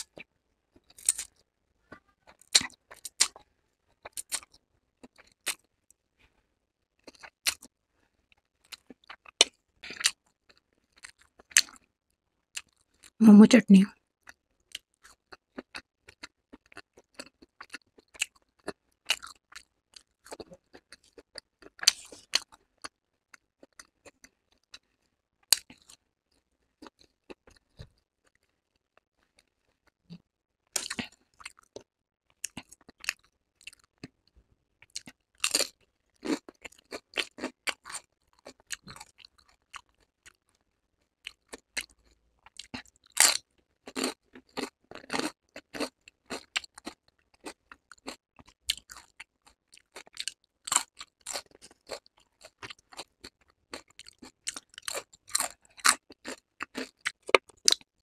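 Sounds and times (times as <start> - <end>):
person chewing food: 0.0 - 5.7, 7.0 - 7.7, 8.3 - 11.8, 12.5 - 13.1, 14.2 - 30.2, 30.8 - 40.6, 41.2 - 57.9.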